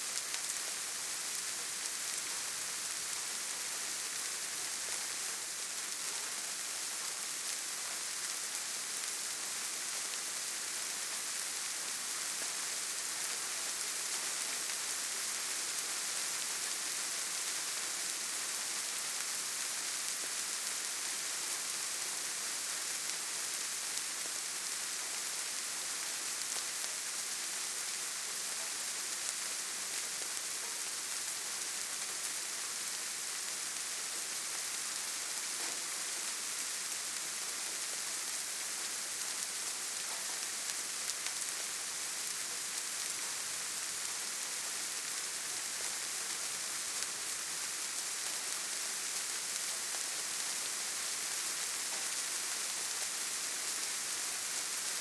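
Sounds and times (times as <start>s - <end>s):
rain on leaves: 0.0s - 55.0s.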